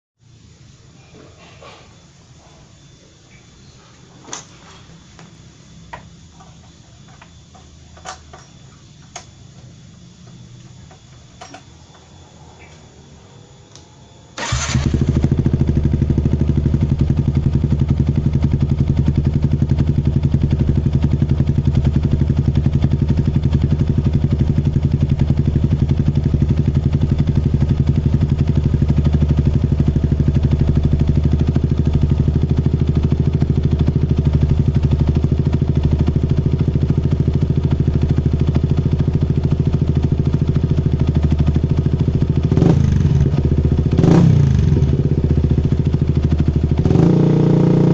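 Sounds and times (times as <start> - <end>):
motorcycle engine idling and revving: 1.4 - 47.9.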